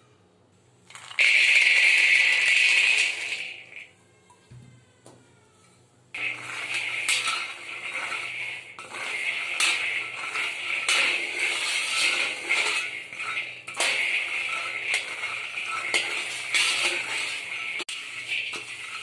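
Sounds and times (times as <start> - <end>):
metal spatula scraping wok: 0.9 - 3.8, 6.2 - 19.0
peanuts rattling in pan: 0.9 - 3.8, 6.2 - 19.0.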